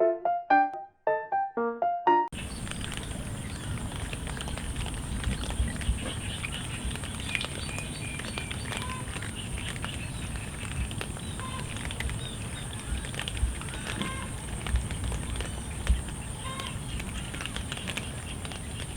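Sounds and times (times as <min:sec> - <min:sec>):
cats chewing and crunching: 0:02.3 - 0:18.9.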